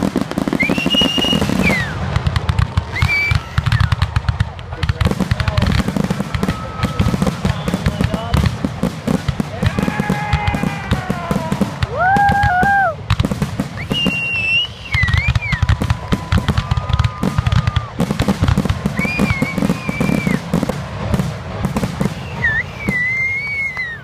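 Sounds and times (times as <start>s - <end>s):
firework whistles: 0.0s - 4.2s, 5.8s - 8.4s, 9.7s - 20.7s, 21.8s - 24.0s
firework crackling: 0.0s - 24.0s
firework shells bursting: 0.0s - 24.0s.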